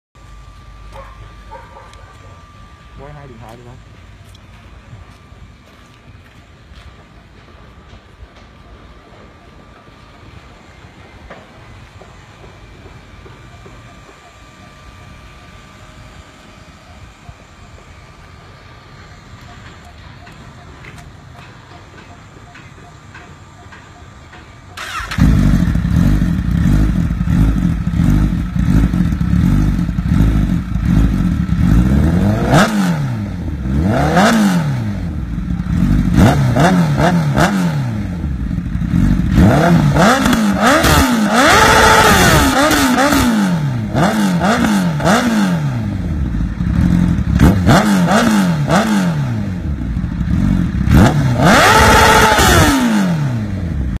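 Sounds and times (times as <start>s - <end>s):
motorcycle engine idling and revving: 0.2s - 54.0s.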